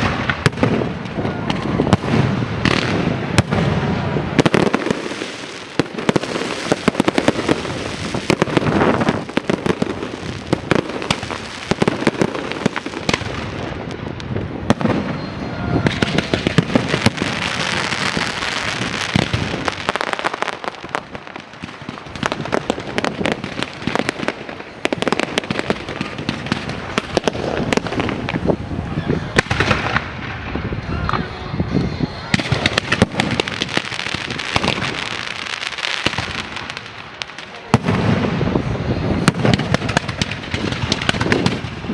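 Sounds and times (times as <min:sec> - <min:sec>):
fireworks bangs and pops: 0:00.0 - 0:31.3, 0:32.3 - 0:41.9
fireworks crackling: 0:00.0 - 0:41.9.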